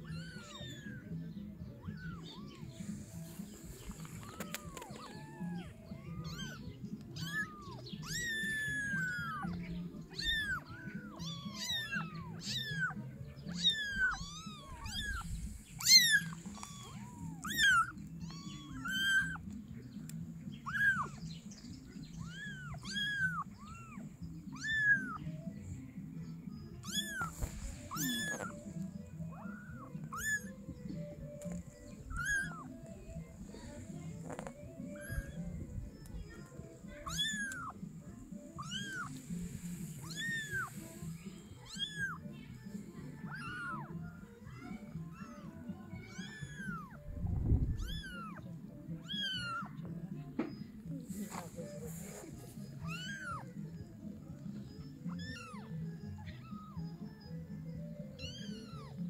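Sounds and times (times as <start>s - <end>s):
kittens mewing: 0.0s - 25.6s, 26.7s - 47.0s, 47.8s - 49.8s, 51.2s - 53.6s, 55.0s - 57.0s, 58.2s - 59.0s.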